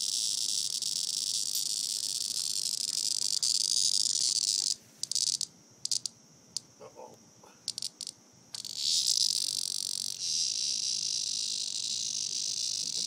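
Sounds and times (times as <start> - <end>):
cicada buzzing: 0.0 - 13.0.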